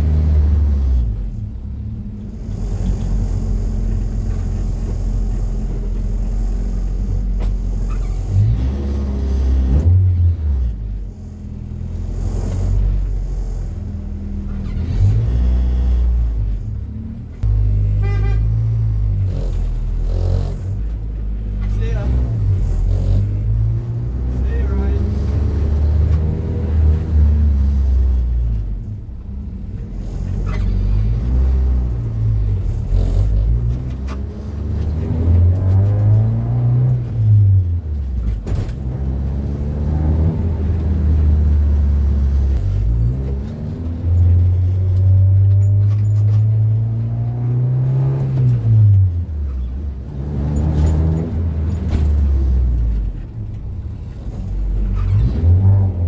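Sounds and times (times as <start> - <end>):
car engine running while driving: 0.0 - 56.0.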